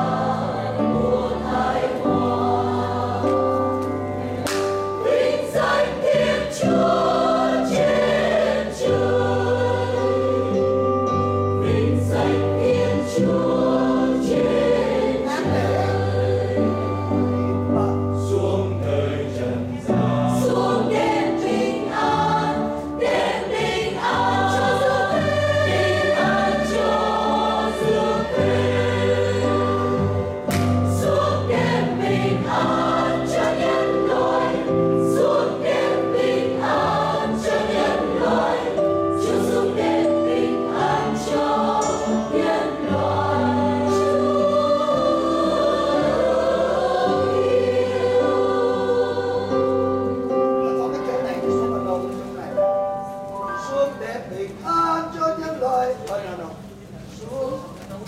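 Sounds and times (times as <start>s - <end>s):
choir singing: 0.0s - 52.4s.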